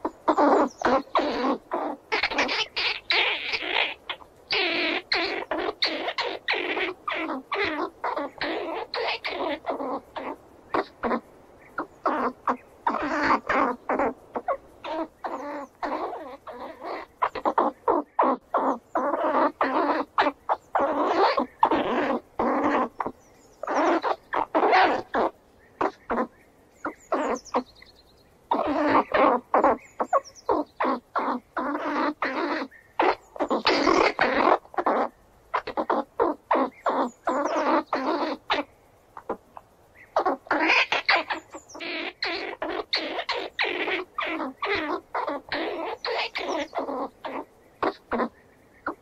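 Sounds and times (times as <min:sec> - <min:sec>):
squirrel chattering calls: 0:00.0 - 0:49.0.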